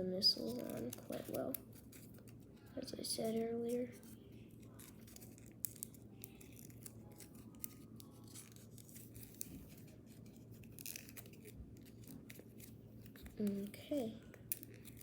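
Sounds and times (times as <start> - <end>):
low steady hum: 0.0 - 15.0
paper crinkling and creasing: 0.0 - 15.0.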